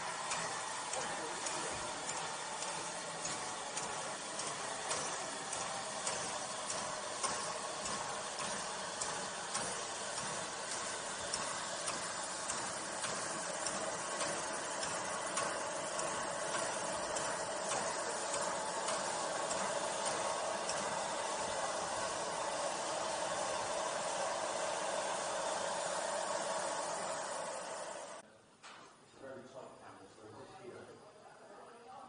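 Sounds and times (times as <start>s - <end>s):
steady hiss of steam: 0.0s - 28.2s
steam locomotive moving slowly: 0.0s - 28.2s.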